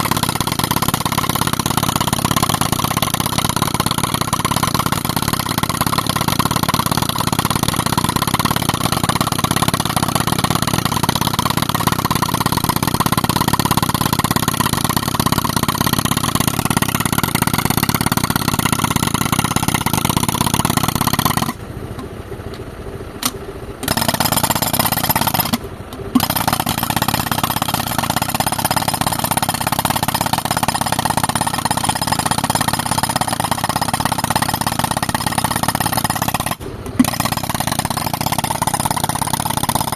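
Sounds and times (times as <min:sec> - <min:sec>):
air compressor and rock breaker: 0:00.0 - 0:22.6, 0:23.2 - 0:39.9
engine running: 0:00.0 - 0:39.9.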